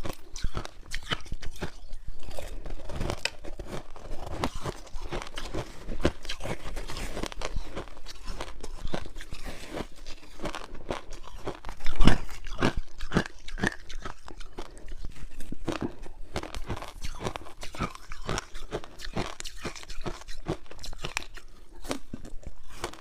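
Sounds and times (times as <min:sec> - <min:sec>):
teeth crunching frozen ice: 0:00.0 - 0:23.0.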